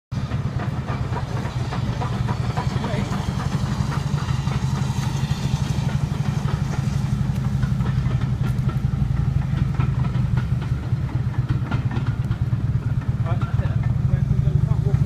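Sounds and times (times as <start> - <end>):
train rumbling: 0.1 - 15.0.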